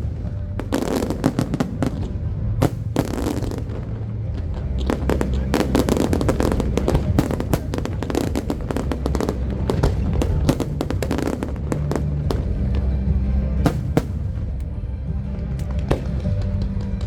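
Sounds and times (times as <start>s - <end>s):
fireworks bursting and crackling: 0.0s - 14.8s, 15.4s - 17.0s
music with low bass notes: 0.0s - 17.0s.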